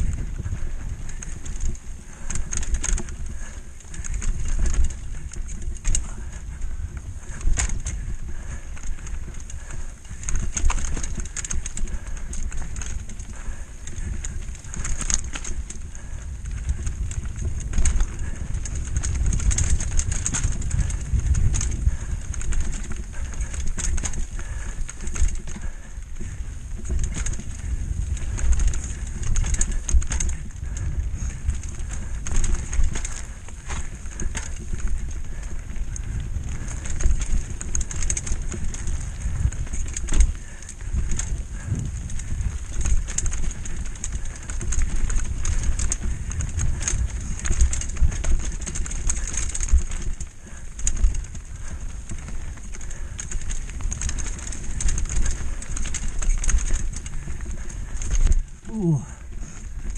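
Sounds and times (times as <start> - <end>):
bike rattling over stones: 0.0 - 59.9
wind rumble on microphone: 0.0 - 59.9.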